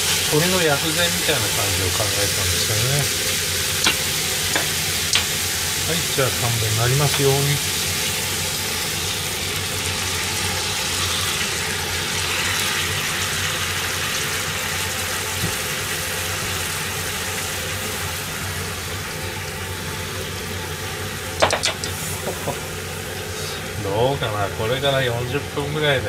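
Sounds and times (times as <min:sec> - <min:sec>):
sizzling and bubbling: 0:00.0 - 0:26.0.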